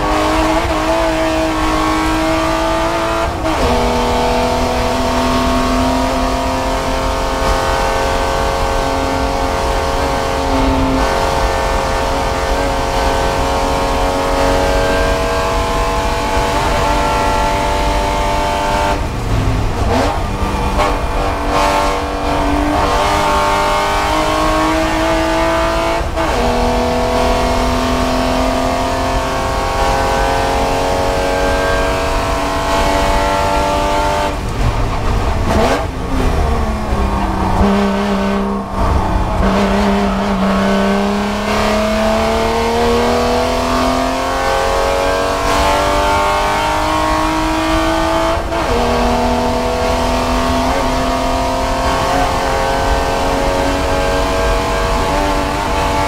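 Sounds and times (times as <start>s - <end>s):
car engine at racing speed: 0.0s - 56.0s.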